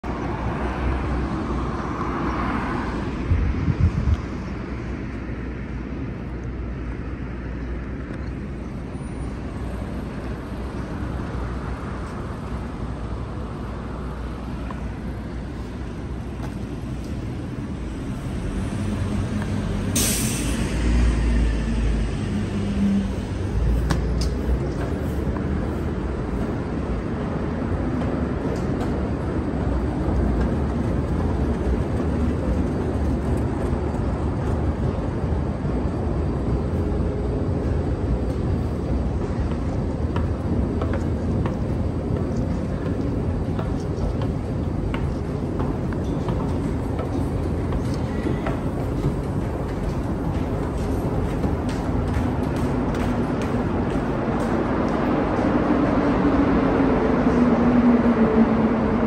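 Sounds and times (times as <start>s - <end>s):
passing cars and buses: 0.0s - 59.0s.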